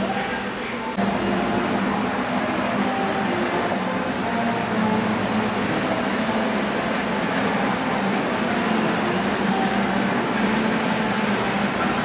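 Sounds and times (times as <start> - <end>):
model locomotive hum: 0.0 - 12.0.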